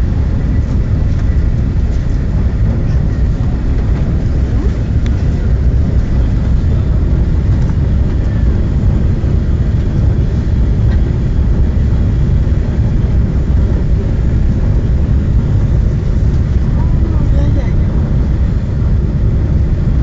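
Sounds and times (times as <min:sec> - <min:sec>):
train carriage rumble: 0:00.0 - 0:20.0.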